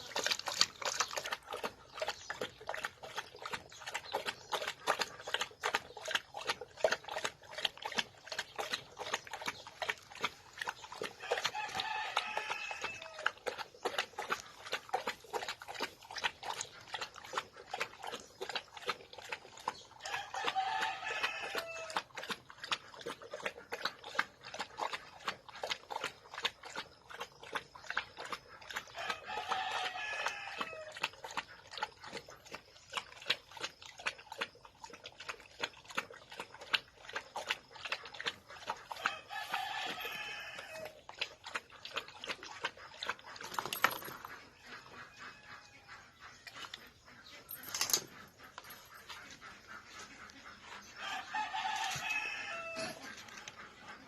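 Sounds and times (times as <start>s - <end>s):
drawn-out animal call: 0.0s - 34.7s, 35.4s - 54.0s
dog lapping water: 0.0s - 54.0s.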